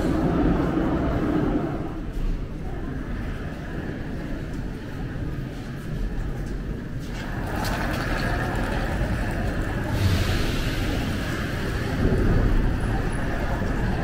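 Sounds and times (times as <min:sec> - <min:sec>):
metro train rumbling: 0:00.0 - 0:14.0.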